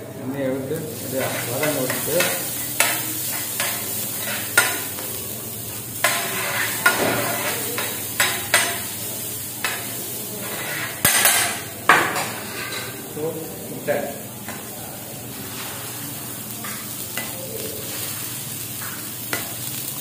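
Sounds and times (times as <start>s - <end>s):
vegetables sizzling in oil: 0.3s - 20.0s.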